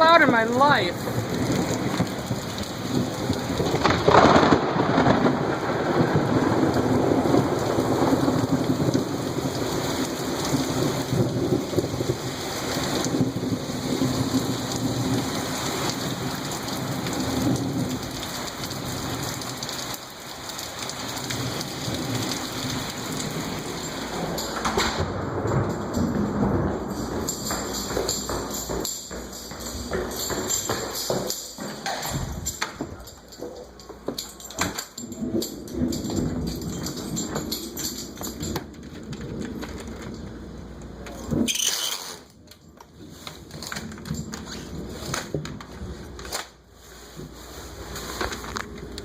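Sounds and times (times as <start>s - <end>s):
thunder rumbling: 0.0s - 31.3s, 31.9s - 33.8s, 34.4s - 41.5s
heavy rain: 0.0s - 41.6s, 42.2s - 49.0s.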